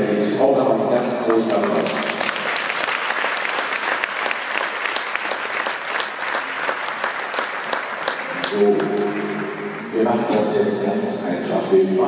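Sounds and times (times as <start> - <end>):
audience applause: 0.9 - 10.9.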